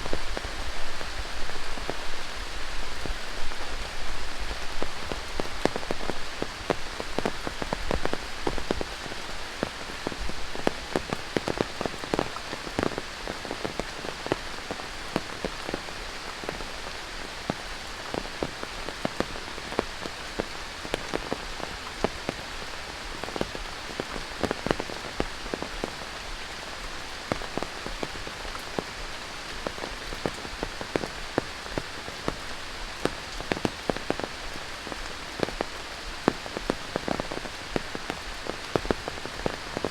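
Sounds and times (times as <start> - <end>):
heavy rain hissing: 0.0 - 39.9
raindrops striking close by: 0.0 - 39.9.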